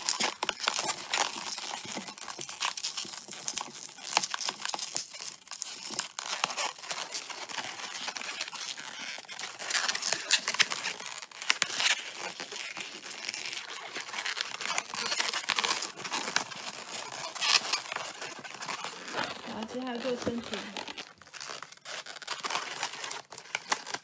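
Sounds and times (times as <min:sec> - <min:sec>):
balloon latex crackling scrapes: 0:00.0 - 0:24.0.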